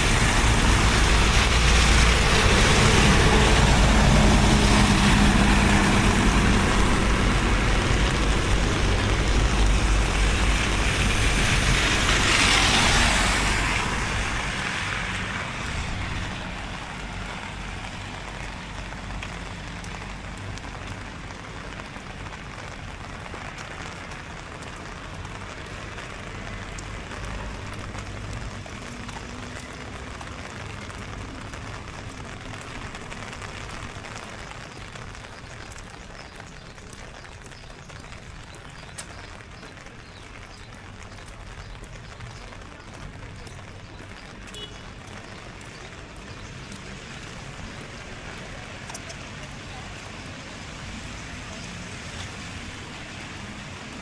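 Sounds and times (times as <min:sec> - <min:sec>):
rain hiss: 0:00.0 - 0:54.0
vehicle passing on wet street: 0:00.0 - 0:54.0.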